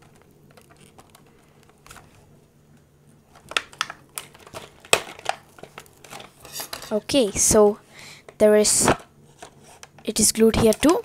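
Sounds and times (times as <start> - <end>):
plastic packaging clicks and crackles: 0.0 - 7.0, 8.3 - 11.0.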